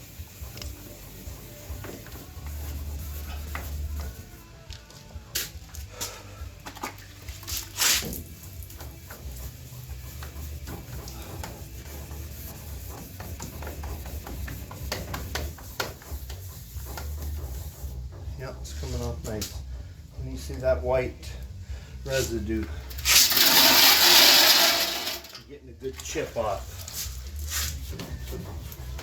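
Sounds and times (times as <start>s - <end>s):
abrasive rubbing and scraping: 0.0s - 5.6s, 6.8s - 21.4s, 22.1s - 25.3s, 26.0s - 29.0s.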